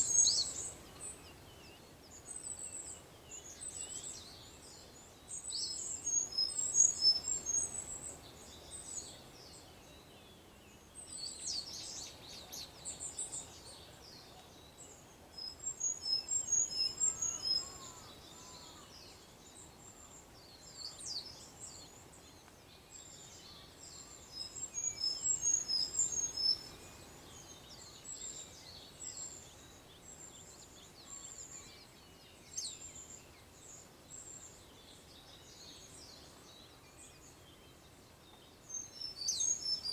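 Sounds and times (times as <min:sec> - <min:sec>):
faint outdoor background noise: 0:00.0 - 0:39.9
songbirds chirping: 0:00.0 - 0:39.9.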